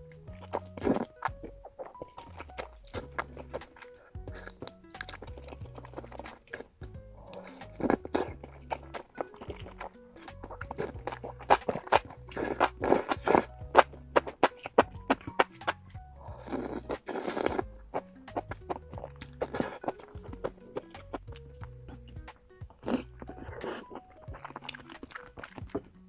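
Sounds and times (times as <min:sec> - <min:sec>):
background music with low notes: 0:00.0 - 0:26.0
crunchy chewing of food: 0:00.0 - 0:26.0.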